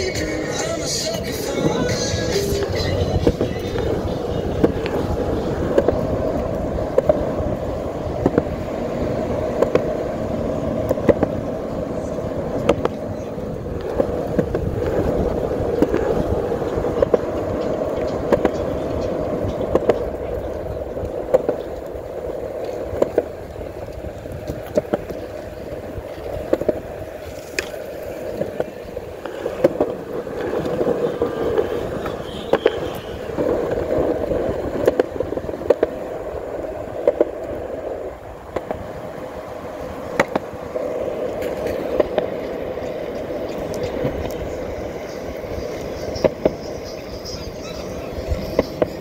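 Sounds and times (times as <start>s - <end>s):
rolling hum: 0.0s - 49.0s
wind rumbling on microphone: 0.0s - 49.0s.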